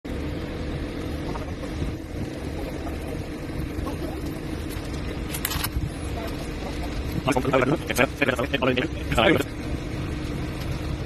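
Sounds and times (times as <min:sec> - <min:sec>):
diesel engines rumbling: 0:00.1 - 0:11.0.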